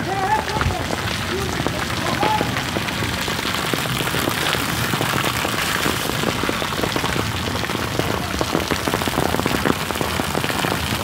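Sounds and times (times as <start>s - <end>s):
rain and hail pattering: 0.0s - 11.0s.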